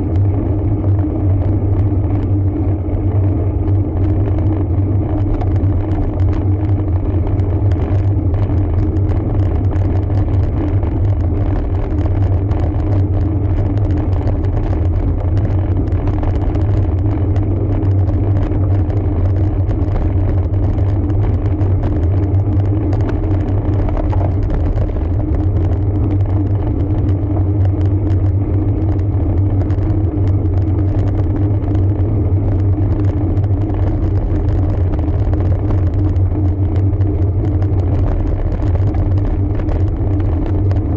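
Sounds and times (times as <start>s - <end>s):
bike tyres running on road: 0.0s - 40.9s
wind on the microphone: 0.0s - 40.9s.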